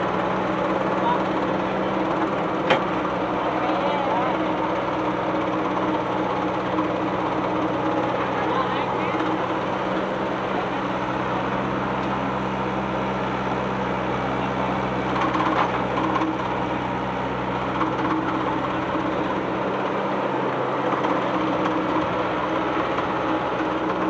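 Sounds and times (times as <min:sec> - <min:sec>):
excavator diesel engine rattling: 0:00.0 - 0:24.0.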